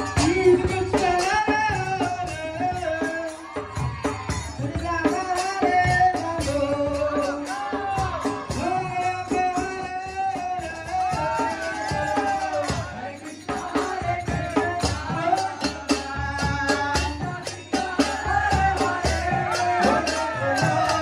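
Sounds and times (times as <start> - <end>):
jingling percussion: 0.0 - 21.0
steady drum beat: 0.0 - 21.0
voices singing: 0.0 - 21.0.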